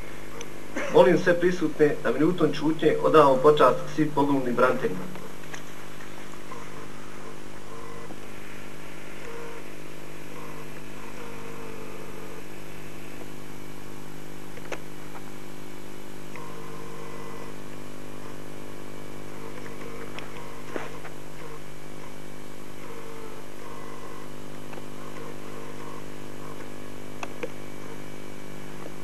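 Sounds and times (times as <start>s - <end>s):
faint whine: 0.0s - 29.0s
steady low hum: 0.0s - 29.0s.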